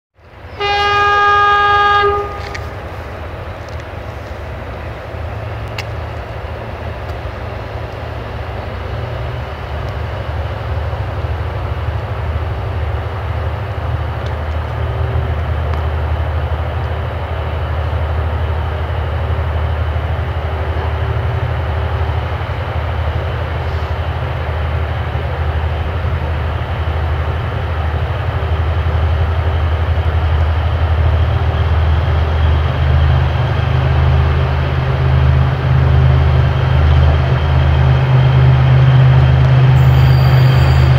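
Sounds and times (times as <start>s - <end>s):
locomotive engine rumbling: 0.2s - 40.9s.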